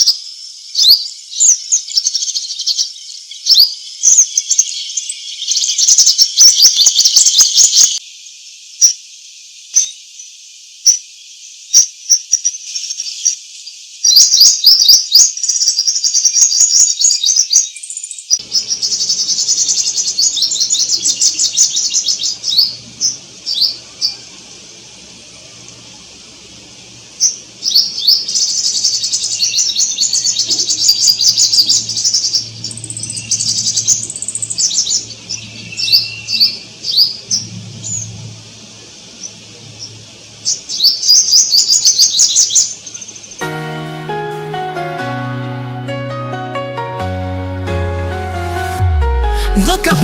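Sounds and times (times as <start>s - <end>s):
small birds chirping: 0.0s - 43.5s.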